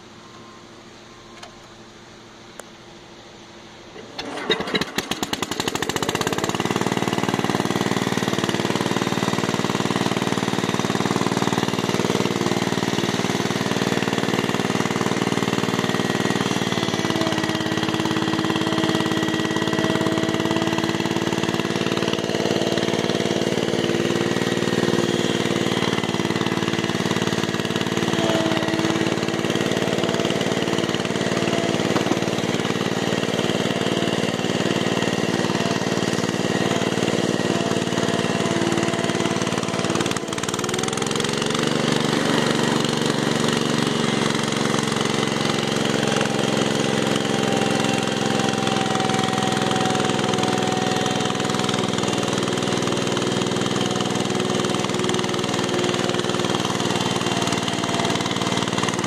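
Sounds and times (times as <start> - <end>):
tractor engine running: 0.0 - 59.0
engine starter cranking: 3.9 - 59.0.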